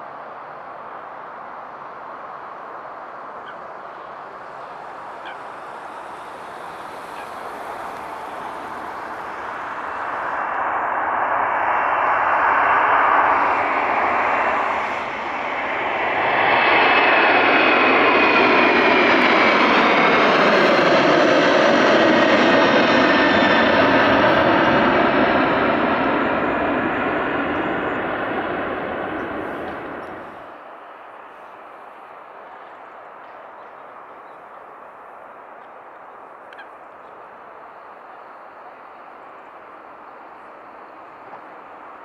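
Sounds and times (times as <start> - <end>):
high engine whine: 0.0 - 42.0
jet engines roaring: 0.0 - 42.0.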